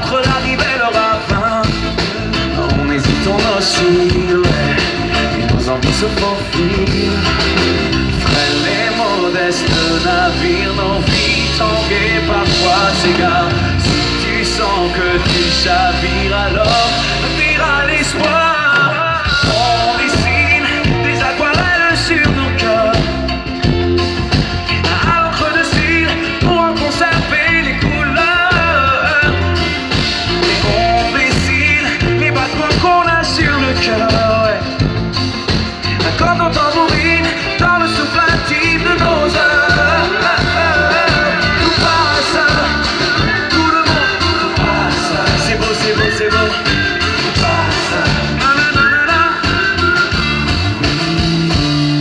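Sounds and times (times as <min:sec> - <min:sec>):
live pop band music: 0:00.0 - 0:52.0.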